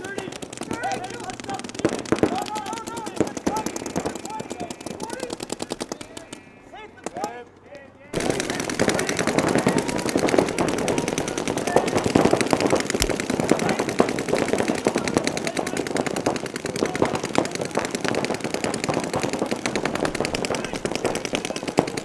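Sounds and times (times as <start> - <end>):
paintball markers firing rapidly: 0.0 - 7.4, 8.1 - 22.0.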